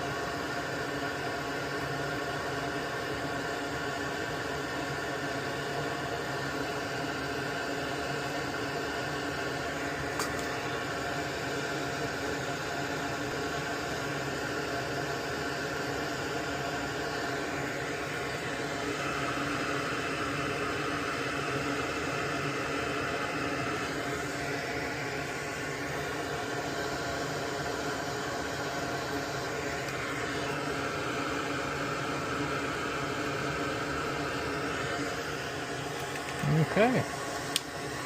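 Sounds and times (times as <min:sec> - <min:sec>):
small motor whirring hum: 0:00.0 - 0:38.0.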